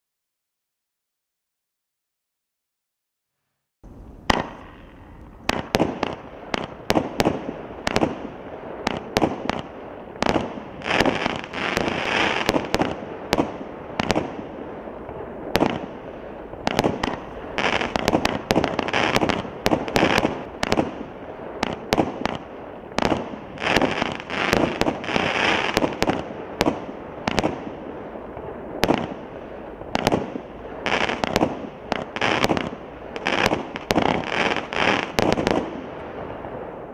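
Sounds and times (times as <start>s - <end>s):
crackling firework stars: 3.4s - 36.9s
firework bangs: 3.8s - 36.9s.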